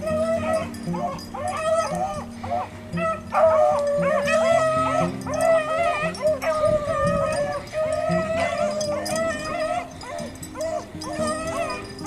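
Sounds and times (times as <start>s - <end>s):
background music: 0.0s - 12.0s
dogs baying: 0.0s - 12.0s.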